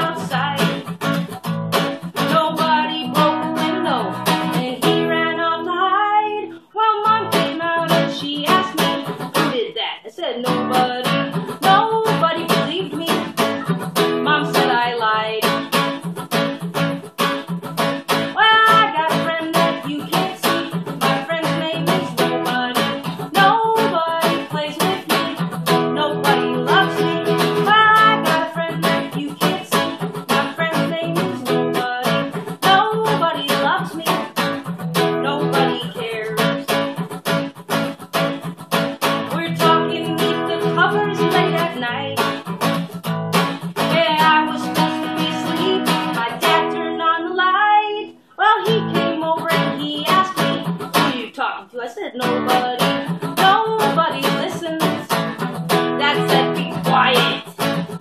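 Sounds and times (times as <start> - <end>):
acoustic guitar strumming: 0.0 - 9.7, 10.4 - 51.4, 52.2 - 58.0
woman singing: 0.0 - 58.0.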